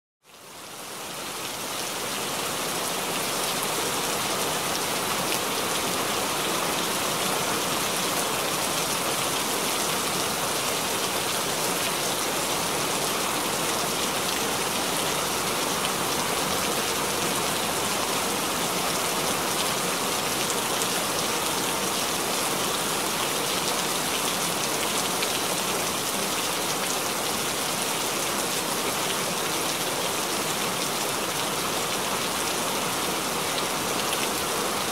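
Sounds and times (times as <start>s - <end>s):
steady rainfall: 0.2s - 34.9s.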